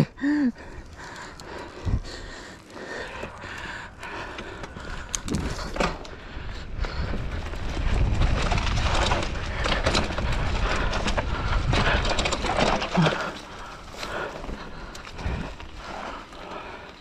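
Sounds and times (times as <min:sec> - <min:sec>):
bike rattling over bumps: 0:00.0 - 0:17.0
bike tyres rumbling over dirt: 0:00.1 - 0:17.0.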